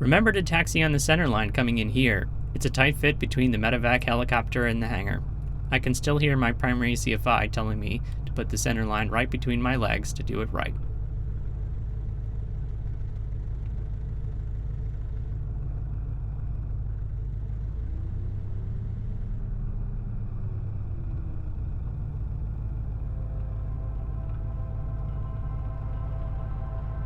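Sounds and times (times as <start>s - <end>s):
aircraft engine rumbling: 0.0s - 17.8s, 22.0s - 27.0s.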